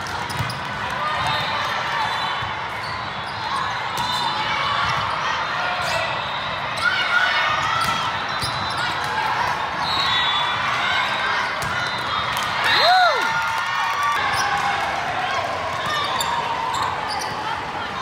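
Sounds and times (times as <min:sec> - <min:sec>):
chatter of players and spectators: 0:00.0 - 0:18.0.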